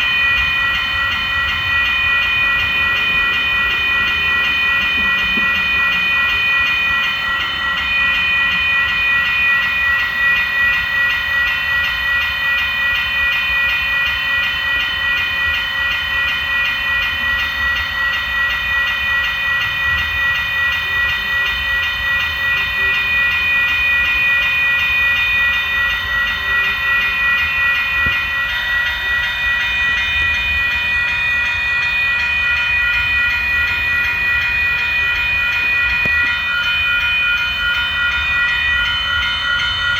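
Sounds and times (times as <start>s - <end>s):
high-pitched whine: 0.0s - 39.9s
train running past: 0.0s - 39.9s.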